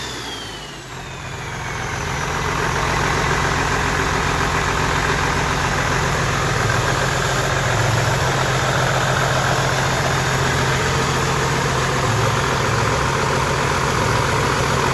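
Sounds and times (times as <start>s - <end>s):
excavator diesel engine idling: 0.0s - 14.9s.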